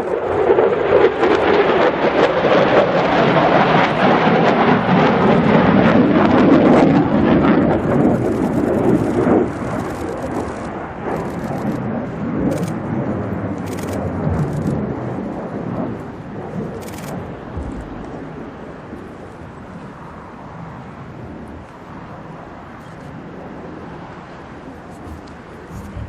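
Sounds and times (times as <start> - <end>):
fighter jet flying past: 0.0 - 26.0.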